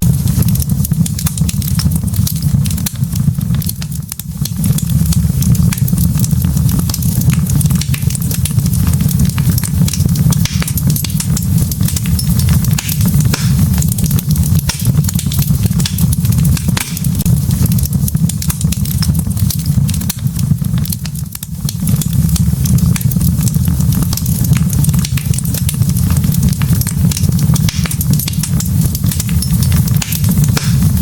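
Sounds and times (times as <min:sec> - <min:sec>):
fire crackling and popping: 0:00.0 - 0:31.0
fire rumbling: 0:00.0 - 0:31.0.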